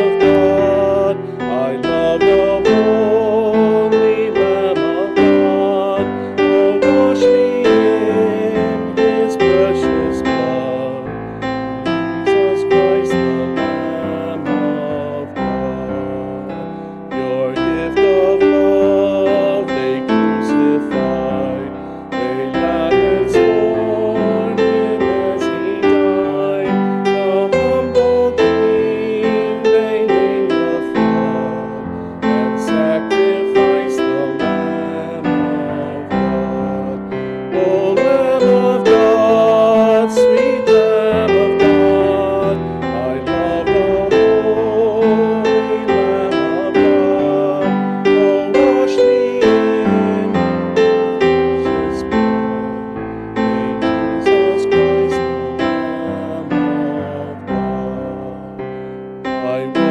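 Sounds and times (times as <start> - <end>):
person singing long notes: 0.0 - 11.3, 12.0 - 52.4, 59.4 - 59.9
piano accompaniment: 0.0 - 59.9.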